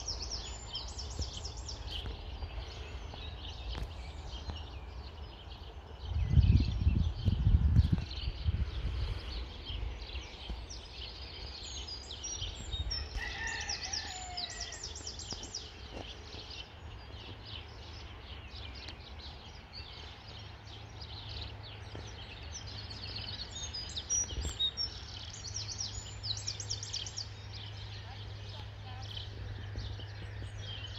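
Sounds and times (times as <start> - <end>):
birds singing and chirping: 0.0 - 30.9.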